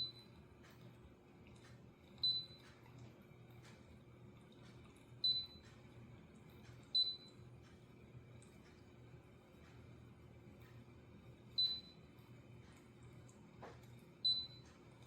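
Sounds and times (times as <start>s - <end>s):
humidifier humming: 0.0s - 15.0s.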